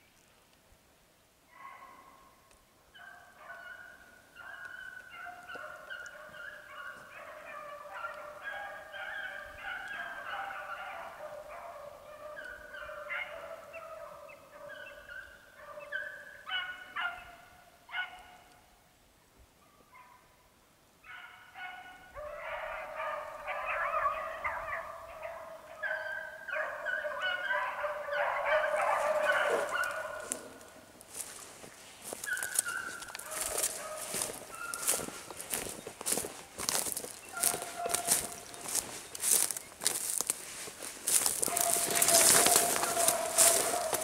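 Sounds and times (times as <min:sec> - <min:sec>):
pack of hounds baying: 0:01.6 - 0:02.2, 0:03.0 - 0:18.4, 0:21.1 - 0:44.0.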